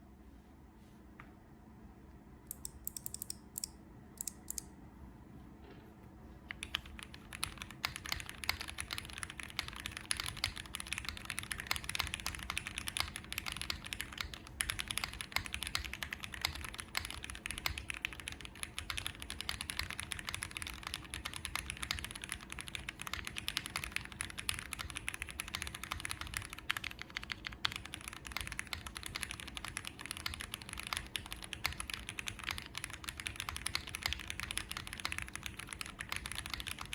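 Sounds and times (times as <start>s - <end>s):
typing on mechanical keyboard: 2.5s - 4.6s, 6.5s - 36.9s.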